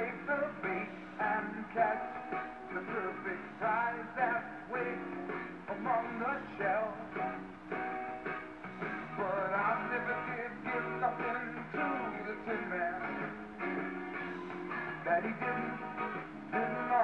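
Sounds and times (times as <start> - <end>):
electric guitar: 0.0 - 17.0
rock and roll song with singing: 0.0 - 17.0.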